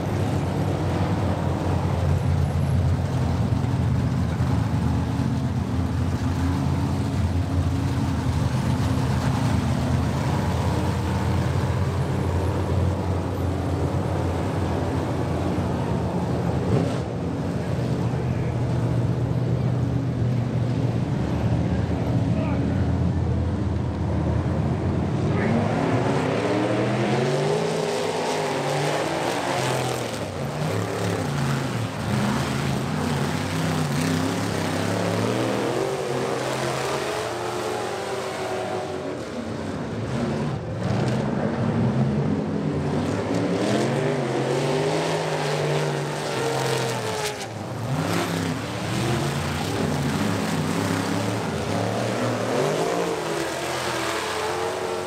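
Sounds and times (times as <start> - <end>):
race truck engines revving: 0.0 - 55.0.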